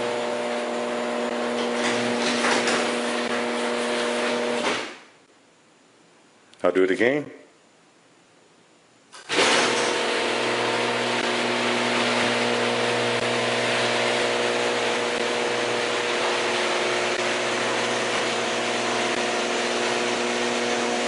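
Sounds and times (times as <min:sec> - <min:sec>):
garage door opener motor hum: 0:00.0 - 0:05.1, 0:09.2 - 0:21.0
garage door rushing noise: 0:00.1 - 0:05.1, 0:09.2 - 0:21.0.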